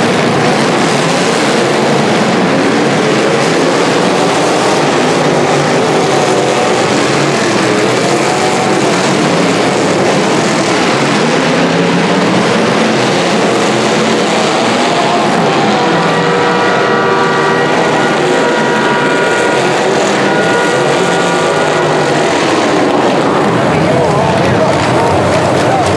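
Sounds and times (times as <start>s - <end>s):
car engines revving hard: 0.0s - 25.9s.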